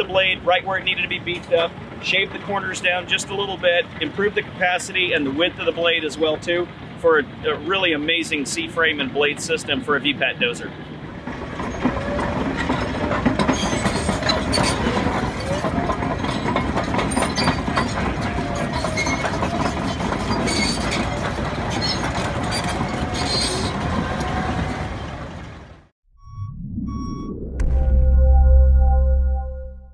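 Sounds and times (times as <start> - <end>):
steel tracks clanking: 0.0 - 25.8
dozer engine running: 0.0 - 25.9.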